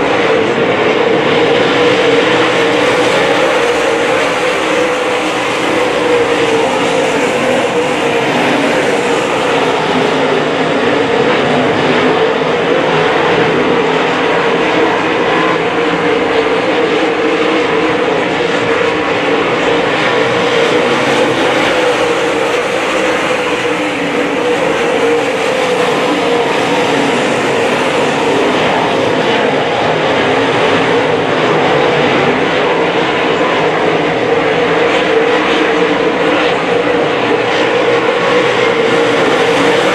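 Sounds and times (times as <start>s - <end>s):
race car engines roaring: 0.0s - 39.9s.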